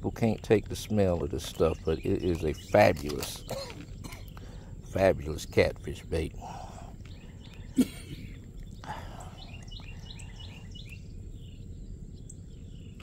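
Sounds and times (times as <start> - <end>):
small bird chirping: 0.3 - 13.0.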